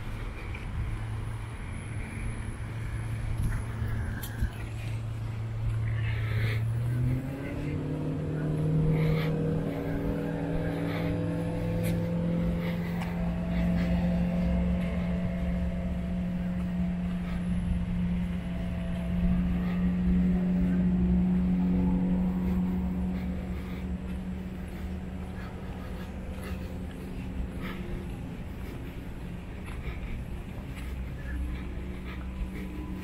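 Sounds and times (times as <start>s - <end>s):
vehicle motor droning: 0.0s - 33.0s.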